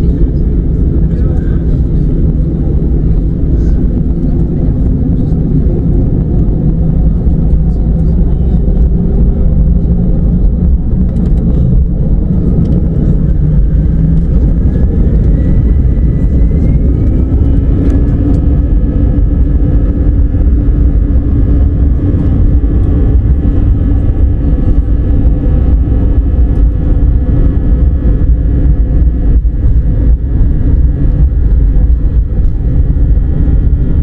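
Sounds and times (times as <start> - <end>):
jet engine whine: 0.0 - 34.0
jet engines rumbling: 0.0 - 34.0.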